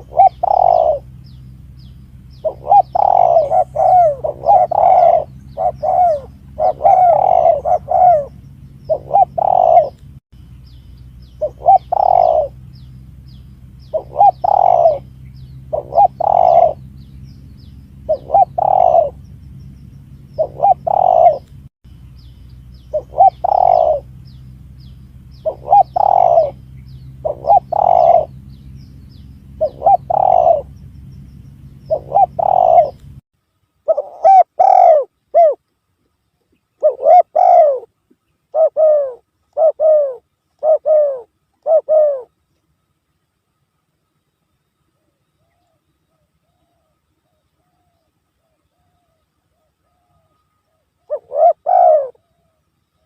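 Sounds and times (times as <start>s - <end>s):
dove cooing: 0.0s - 10.0s, 11.4s - 19.3s, 20.1s - 21.5s, 22.8s - 24.2s, 24.8s - 30.9s, 31.6s - 33.1s, 33.8s - 35.6s, 36.8s - 42.4s, 45.0s - 52.6s
faint small bird chirps: 0.0s - 53.0s
steady low hum: 0.0s - 53.0s.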